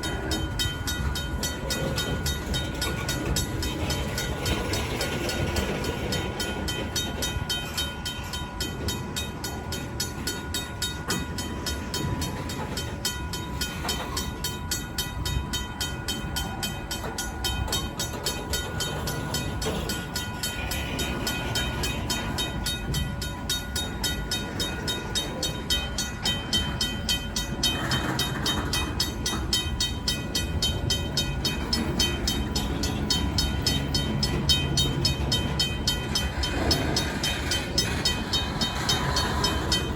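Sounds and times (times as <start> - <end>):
crossing bell ringing: 0.0 - 39.9
freight cars rumbling: 0.0 - 39.9.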